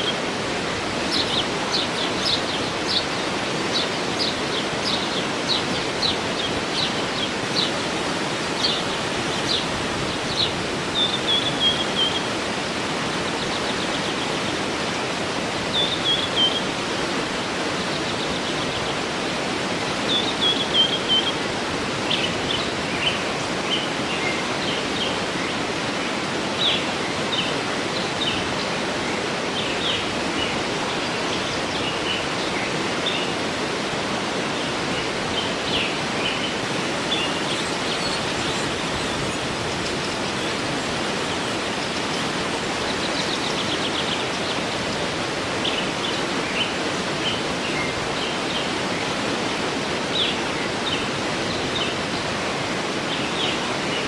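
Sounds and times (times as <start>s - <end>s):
songbirds chirping: 0.0s - 54.0s
waterfall rushing: 0.0s - 54.0s.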